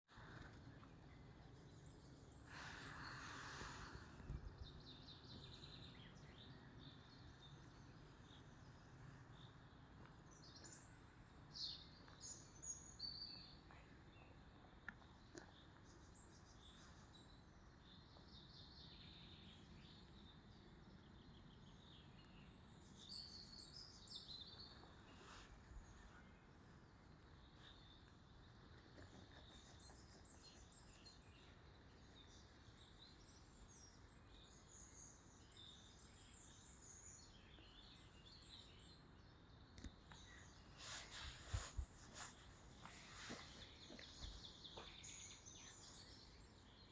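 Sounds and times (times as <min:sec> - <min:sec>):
birds chirping: 0:00.1 - 0:46.9
soft steady hiss: 0:00.2 - 0:46.9.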